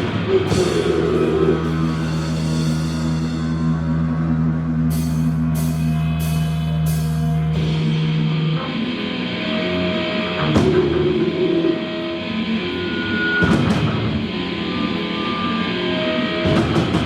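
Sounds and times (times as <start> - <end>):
distorted guitars: 0.0 - 17.0.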